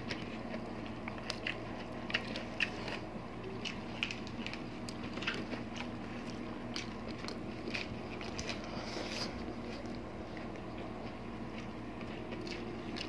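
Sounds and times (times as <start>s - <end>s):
chewing and lip smacks: 0.0s - 13.0s
faint steady hum: 0.0s - 13.0s.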